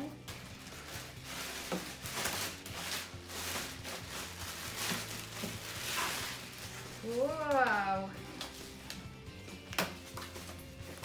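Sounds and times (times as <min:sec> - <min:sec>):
packaging rustling: 0:00.2 - 0:11.0.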